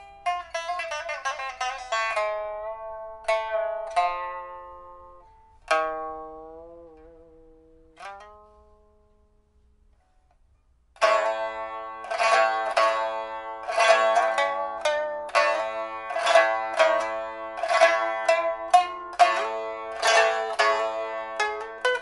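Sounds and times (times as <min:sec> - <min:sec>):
pipa plucked notes: 0:00.0 - 0:22.0.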